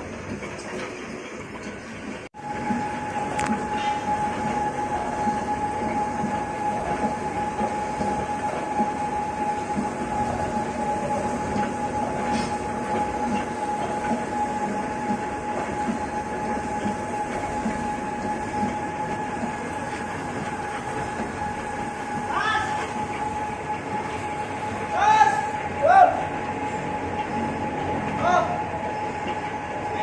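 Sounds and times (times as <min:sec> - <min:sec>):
gear shaper machine humming: 0:00.0 - 0:30.0.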